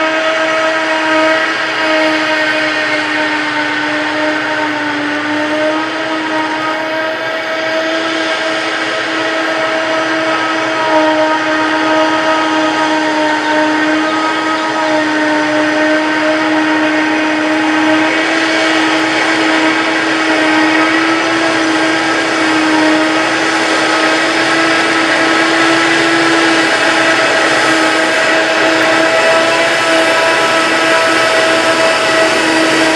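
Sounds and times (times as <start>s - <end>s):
forage harvester high whine: 0.0s - 32.9s.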